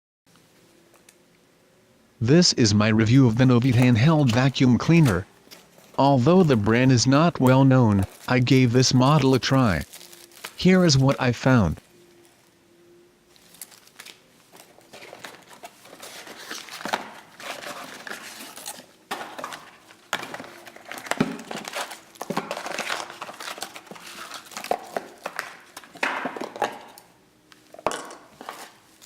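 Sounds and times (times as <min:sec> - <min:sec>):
packaging crinkling and rustling: 0:03.4 - 0:11.1, 0:13.3 - 0:29.0.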